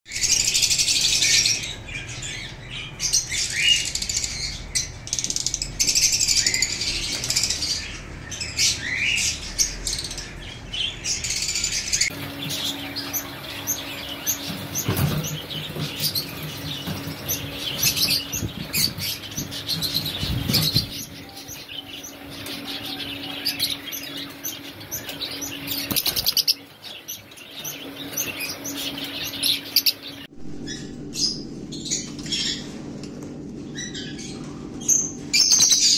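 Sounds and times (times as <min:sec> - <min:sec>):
lovebirds chirping and chattering: 0:00.1 - 0:35.9
steady low hum: 0:00.1 - 0:35.9.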